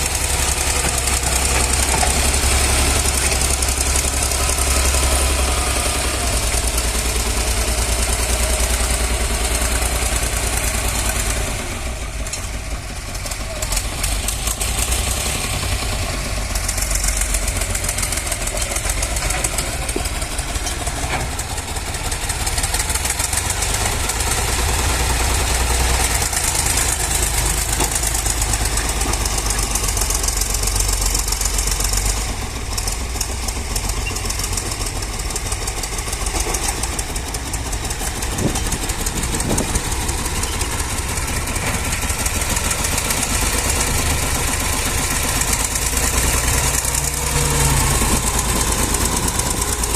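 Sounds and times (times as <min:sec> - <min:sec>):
tractor diesel engine clattering: 0:00.0 - 0:49.9.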